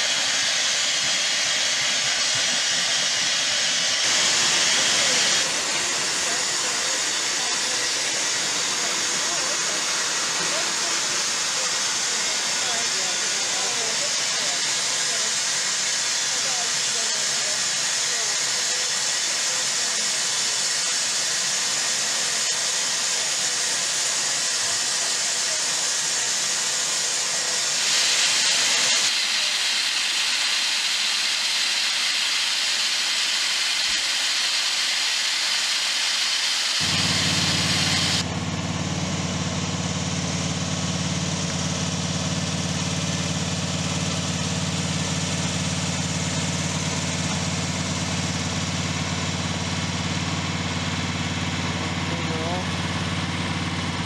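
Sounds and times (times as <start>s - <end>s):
small engine idling: 0.0s - 54.0s
steam hissing: 0.0s - 54.0s.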